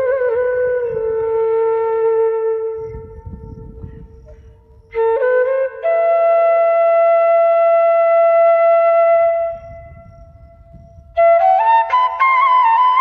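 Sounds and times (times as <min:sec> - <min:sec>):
wind instrument melody: 0:00.0 - 0:13.0.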